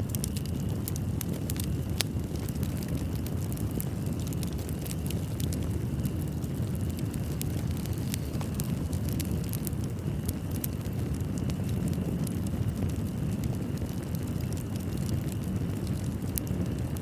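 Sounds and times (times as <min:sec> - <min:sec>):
fire flames rumbling: 0:00.0 - 0:17.0
wood fire crackling and popping: 0:00.0 - 0:17.0.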